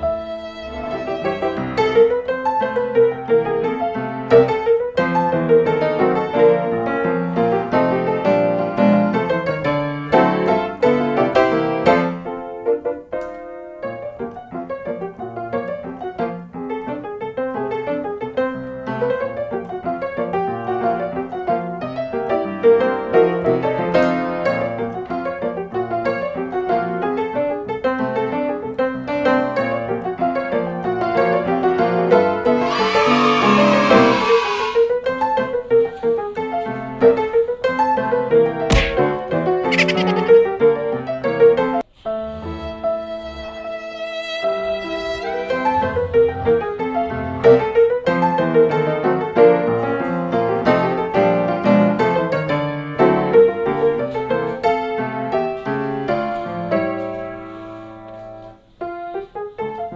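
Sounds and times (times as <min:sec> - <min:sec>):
background piano music: 0:00.0 - 0:32.6, 0:41.6 - 0:59.9.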